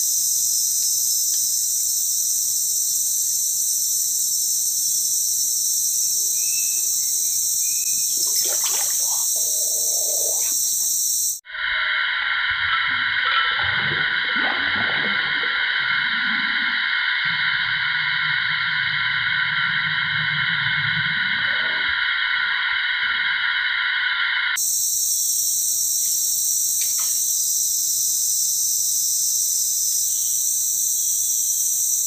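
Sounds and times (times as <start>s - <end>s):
lower insect drone: 0.0s - 32.0s
shrill insect chorus: 0.0s - 32.0s.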